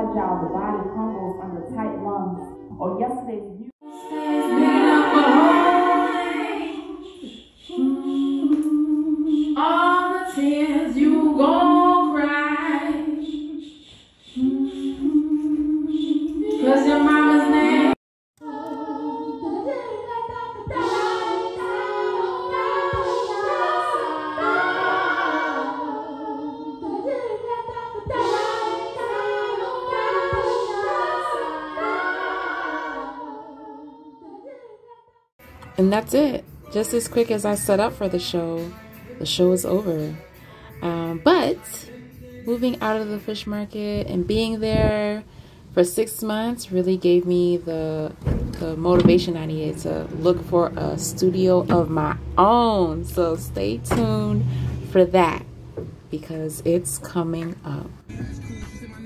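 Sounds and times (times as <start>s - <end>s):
woman singing a cappella: 3.8s - 13.7s, 14.4s - 34.9s, 35.8s - 55.4s, 56.1s - 58.1s.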